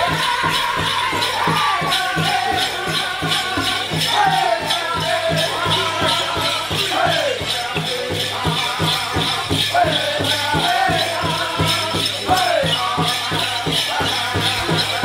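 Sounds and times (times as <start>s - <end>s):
ankle bells jingling: 0.0s - 15.0s
big drum beaten fast: 0.0s - 15.0s
high sliding singing: 0.0s - 15.0s.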